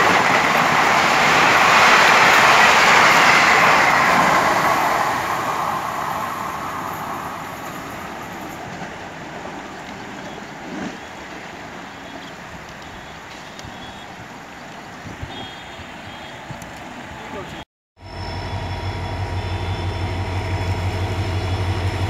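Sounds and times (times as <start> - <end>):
passenger train rushing past: 0.0 - 14.6, 15.8 - 22.0.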